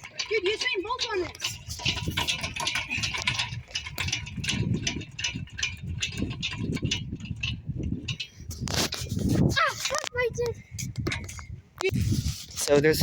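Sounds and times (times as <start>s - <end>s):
footfalls on playground equipment: 0.0s - 12.2s
wind rumble on microphone: 1.2s - 13.0s.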